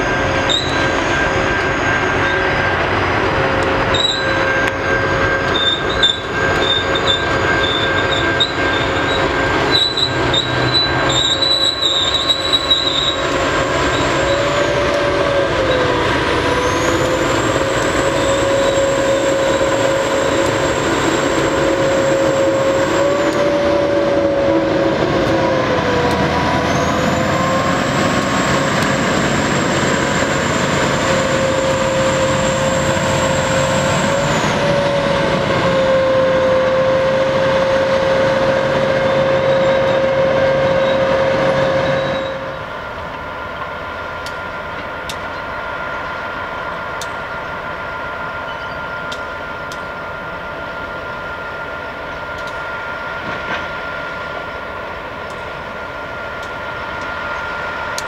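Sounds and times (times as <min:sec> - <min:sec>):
locomotive hauling wagons: 0:00.0 - 0:58.0.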